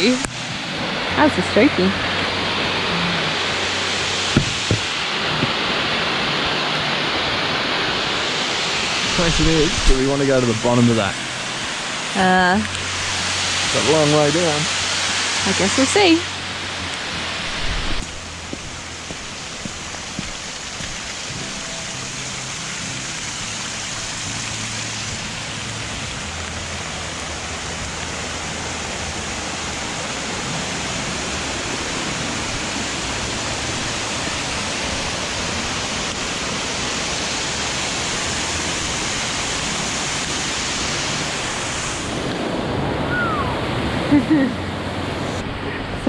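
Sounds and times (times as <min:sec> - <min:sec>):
rain: 0:00.0 - 0:46.0
running water: 0:00.0 - 0:46.0.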